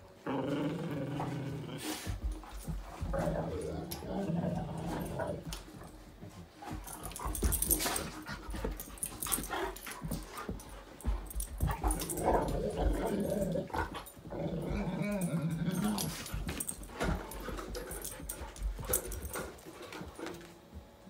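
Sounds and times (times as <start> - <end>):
dogs growling in play: 0.0 - 20.5
paws thumping on carpet: 1.9 - 4.1, 4.8 - 14.4, 15.2 - 20.9.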